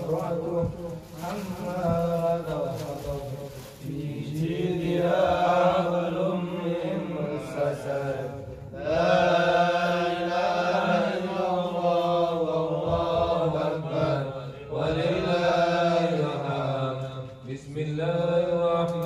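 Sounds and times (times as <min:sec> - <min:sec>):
man reciting melodically into microphone: 0:00.0 - 0:19.0.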